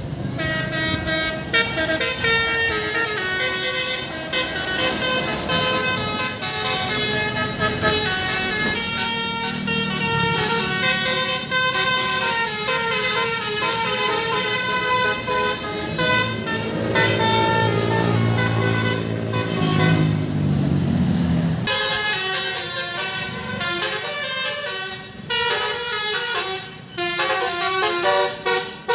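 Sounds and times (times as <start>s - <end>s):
melodic vehicle horn: 0.3s - 20.3s, 21.6s - 28.9s.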